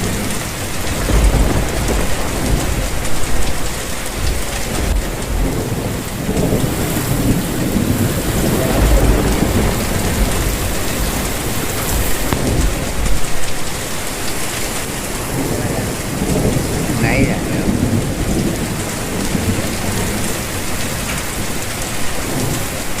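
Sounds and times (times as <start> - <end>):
heavy rain pouring: 0.0 - 23.0
thunder rumbling: 0.0 - 23.0.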